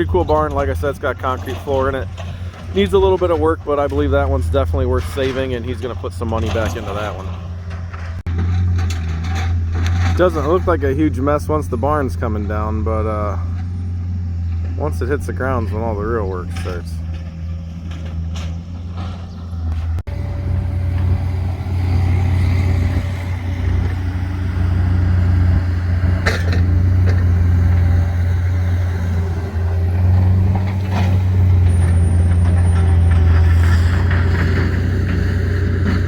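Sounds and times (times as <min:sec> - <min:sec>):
heavy engine running: 0:00.0 - 0:36.0.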